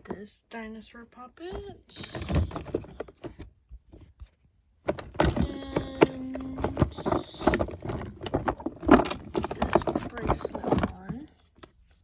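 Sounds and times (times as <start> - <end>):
knocks and clicks of toys: 1.5 - 11.7.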